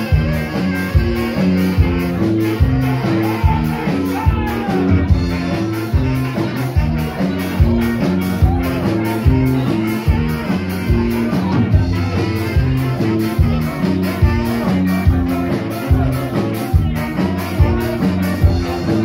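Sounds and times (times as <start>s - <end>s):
drum beat: 0.0s - 19.0s
live band playing: 0.0s - 19.0s.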